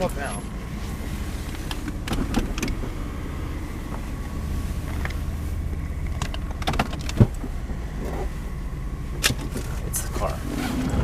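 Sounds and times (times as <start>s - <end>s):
engine rumbling at low speed: 0.0s - 11.0s.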